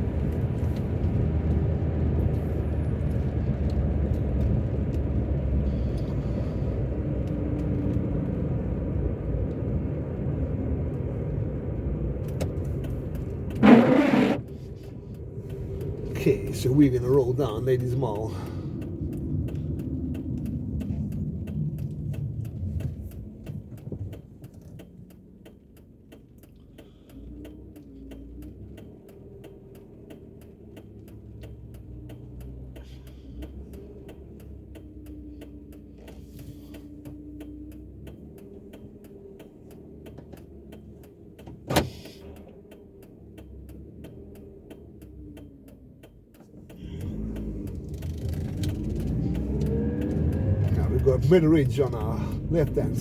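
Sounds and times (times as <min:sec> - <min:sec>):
car engine rumble from inside cabin: 0:00.0 - 0:53.0
faint regular ticking: 0:00.1 - 0:53.0.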